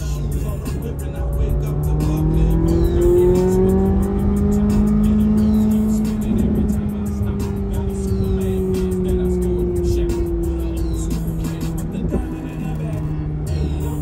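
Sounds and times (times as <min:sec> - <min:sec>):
car engine accelerating from cabin: 0:00.0 - 0:14.0.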